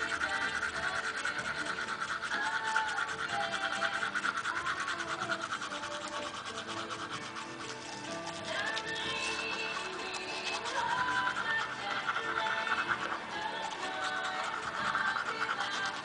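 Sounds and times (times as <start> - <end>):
cockatiel buzzy chatter: 0.0 - 16.0
toothbrush scrubbing teeth: 0.0 - 16.0.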